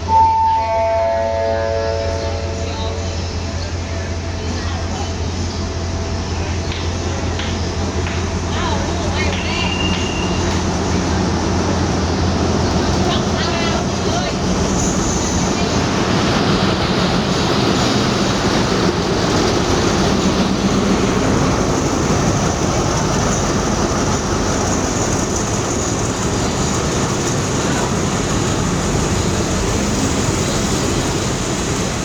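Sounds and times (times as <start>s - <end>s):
train rumbling along track: 0.0s - 32.0s.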